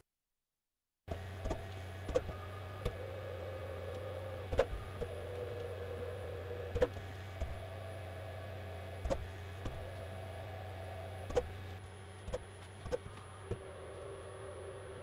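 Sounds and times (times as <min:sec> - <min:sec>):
low hum: 0:01.1 - 0:15.0
motor whine: 0:01.1 - 0:15.0.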